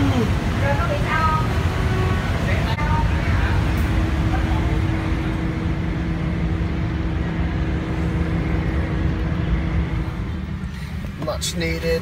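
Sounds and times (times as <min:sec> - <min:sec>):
ferry engine droning: 0:00.0 - 0:12.0.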